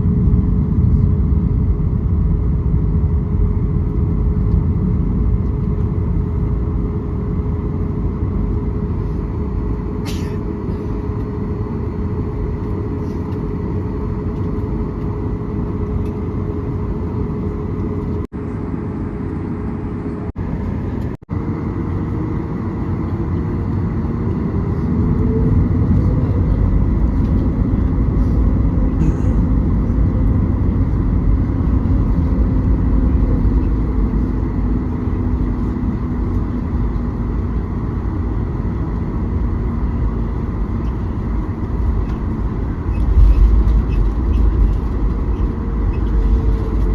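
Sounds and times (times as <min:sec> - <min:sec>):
aircraft engines rumbling: 0:00.0 - 0:46.9.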